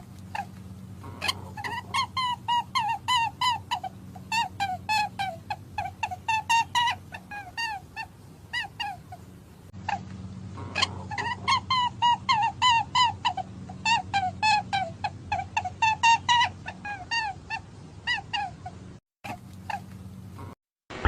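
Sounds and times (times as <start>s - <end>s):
rabbit squeaking: 0.0s - 20.6s
low steady hum: 0.0s - 21.0s.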